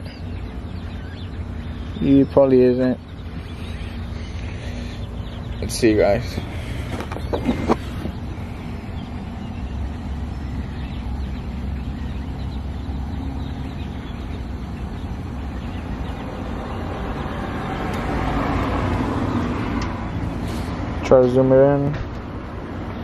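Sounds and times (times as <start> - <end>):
engine running low rumble: 0.0 - 23.0.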